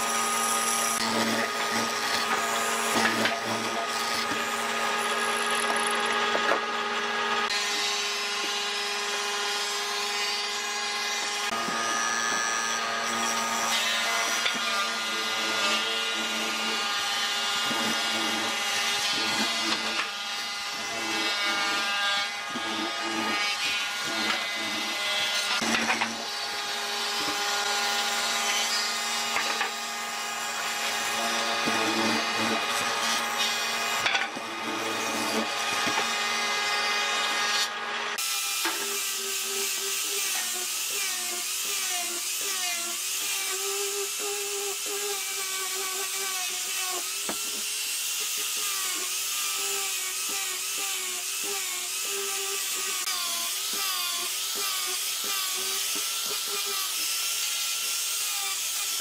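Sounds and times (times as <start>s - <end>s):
angle grinder sanding wood: 0.0s - 59.0s
mortising machine cutting wood: 0.0s - 59.0s.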